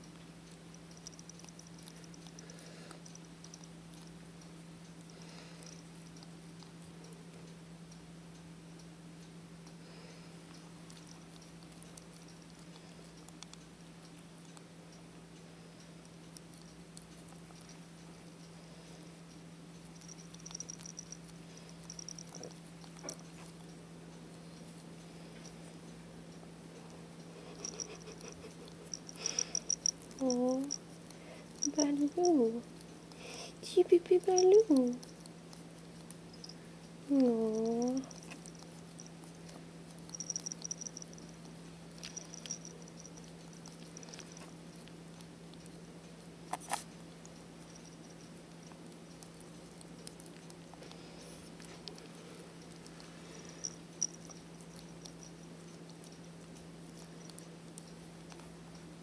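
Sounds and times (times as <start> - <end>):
steady low hum: 0.0 - 59.0
ferret licking wet clicks: 9.6 - 25.7, 27.2 - 59.0.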